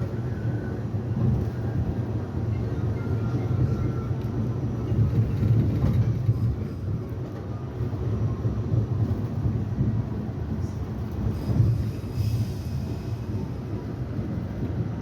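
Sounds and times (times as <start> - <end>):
subway car rumbling on track: 0.0 - 15.0.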